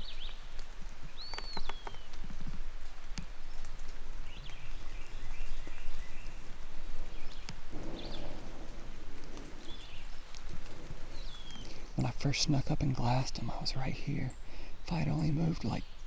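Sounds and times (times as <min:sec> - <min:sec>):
light steady hiss: 0:00.0 - 0:16.0
rain dripping taps: 0:00.0 - 0:16.0
songbirds calling: 0:00.0 - 0:16.0.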